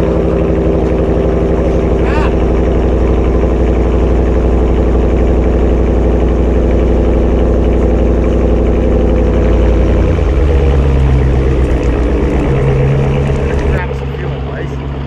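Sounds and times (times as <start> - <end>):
pickup truck exhaust idling: 0.0 - 15.0.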